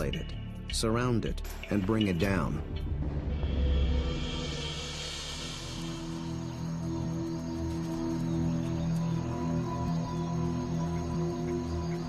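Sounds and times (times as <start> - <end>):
soundtrack music with low held notes: 0.0 - 12.0.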